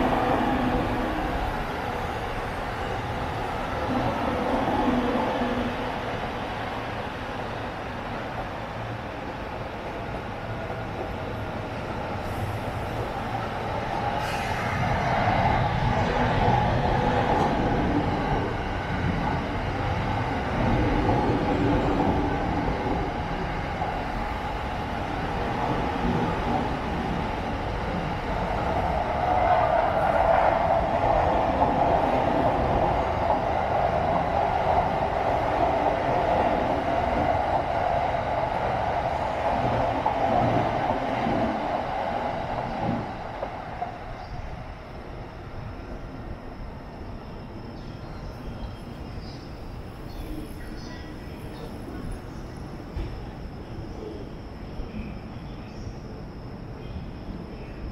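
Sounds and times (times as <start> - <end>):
electric trains passing: 0.0 - 57.9.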